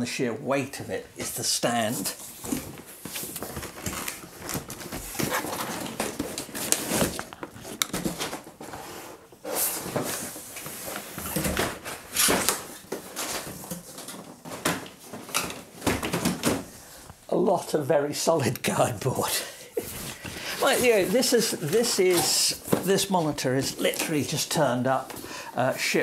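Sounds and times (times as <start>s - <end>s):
cardboard scraping and creaking: 1.2s - 16.3s, 19.8s - 26.0s.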